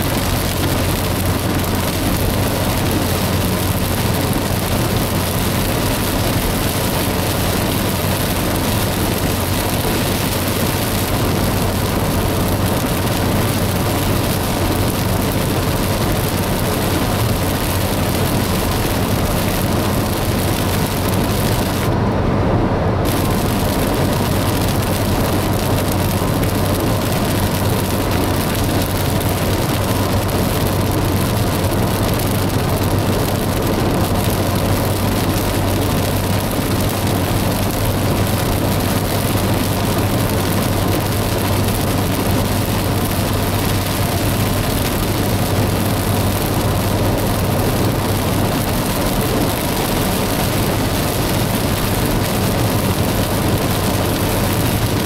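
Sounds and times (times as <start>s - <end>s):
rain on car roof: 0.0s - 22.2s, 22.9s - 55.0s
road and engine drone: 0.0s - 55.0s
tyres hissing on wet road: 0.0s - 55.0s.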